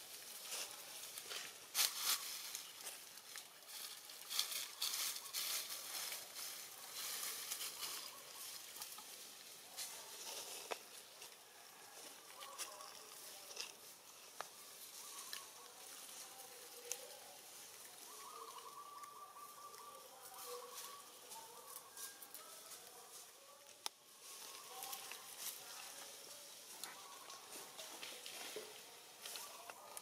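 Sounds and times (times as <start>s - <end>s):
dry leaves rustling: 0.0s - 30.0s.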